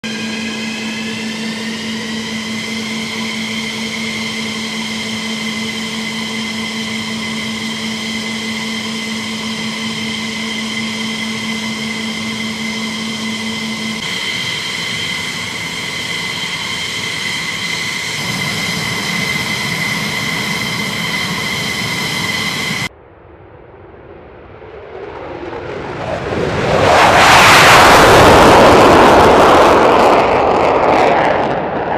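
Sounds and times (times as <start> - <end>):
high-pitched turbine whine: 0.0 - 31.9.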